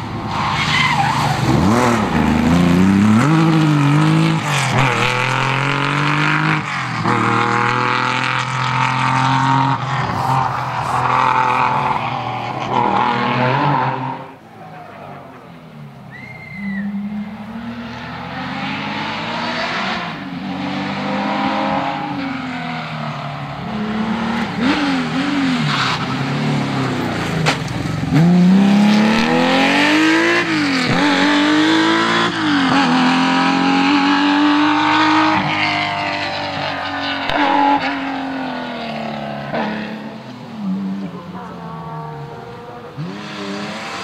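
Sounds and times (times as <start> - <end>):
rally car accelerating hard: 0.0 - 15.5, 16.6 - 44.0.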